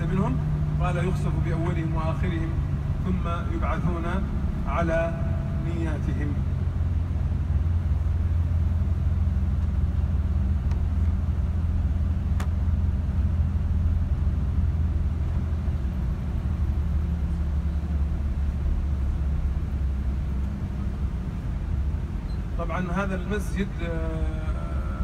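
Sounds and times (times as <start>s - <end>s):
bus engine and tyre rumble: 0.0s - 25.0s.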